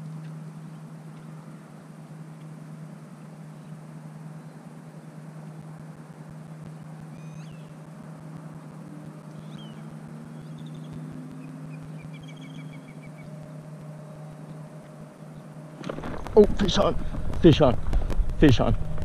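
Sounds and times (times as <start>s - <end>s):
small birds chirping: 0.0s - 17.7s
steady low hum: 0.0s - 19.0s.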